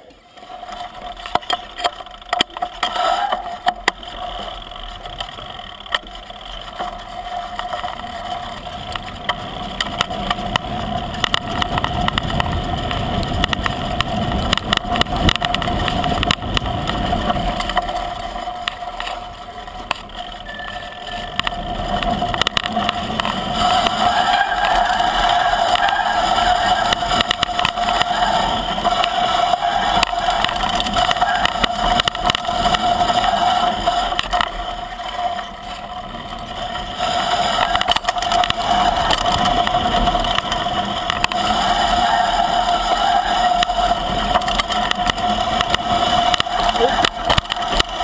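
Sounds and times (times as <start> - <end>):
bike rattling and knocking: 0.0 - 48.0
bike tyres over dirt and leaves: 0.0 - 48.0.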